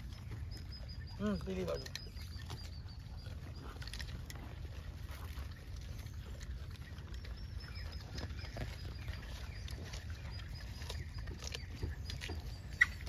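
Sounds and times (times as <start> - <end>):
small clicks and rustles: 1.8 - 13.0.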